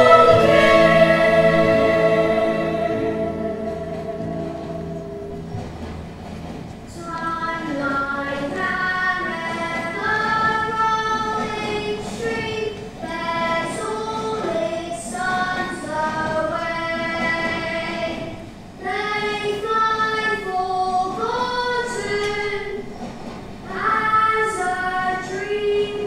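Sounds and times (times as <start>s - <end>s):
boys singing in high voices: 0.0s - 5.3s, 7.0s - 22.9s, 23.7s - 26.0s.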